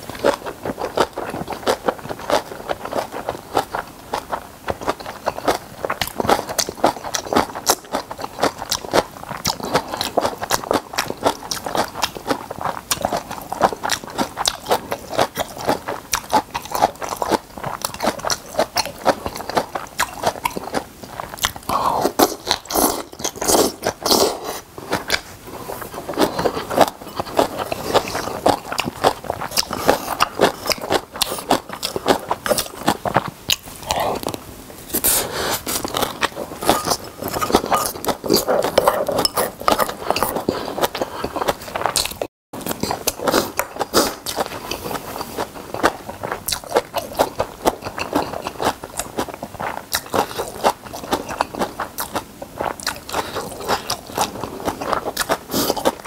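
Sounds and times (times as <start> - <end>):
crunchy chewing: 0.0 - 56.0
wet mouth sounds: 0.1 - 56.0.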